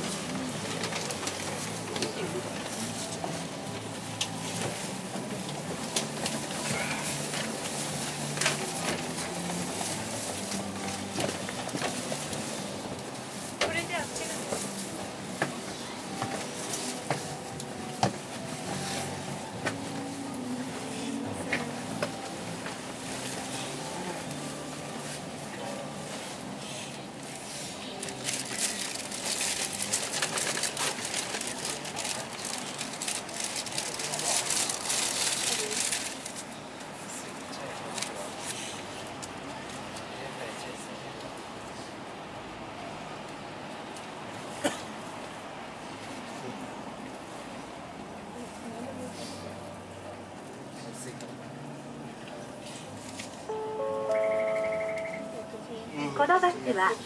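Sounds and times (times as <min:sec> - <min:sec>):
crackling rustling noise: 0:00.0 - 0:40.1, 0:47.1 - 0:54.4.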